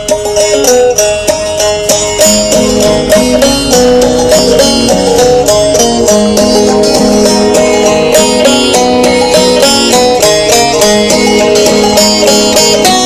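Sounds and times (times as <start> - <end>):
lower accompanying string line: 0.0 - 13.0
picked string instrument notes: 0.0 - 13.0.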